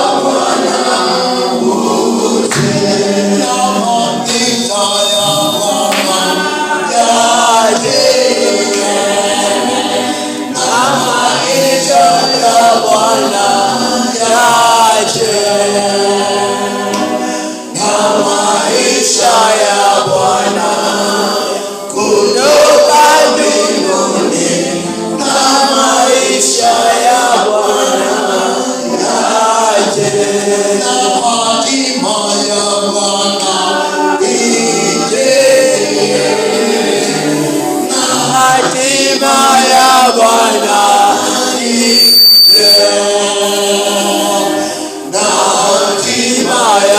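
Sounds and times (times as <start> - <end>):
choir singing gospel song: 0.0 - 46.9.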